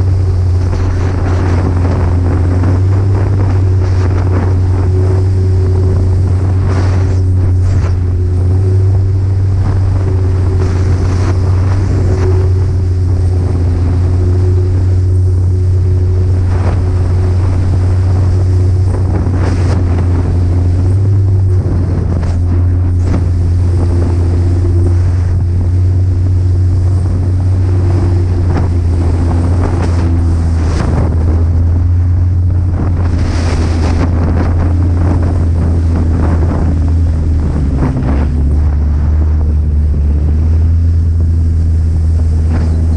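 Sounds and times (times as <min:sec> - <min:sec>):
snowmobile engine droning: 0:00.0 - 0:42.9
wind buffeting microphone: 0:00.0 - 0:42.9.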